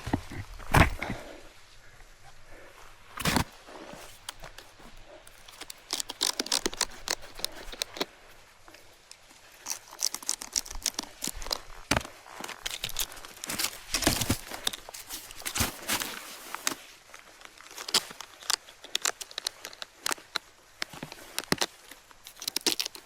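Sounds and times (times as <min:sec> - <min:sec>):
crunching crusty snow: 0:00.0 - 0:23.0.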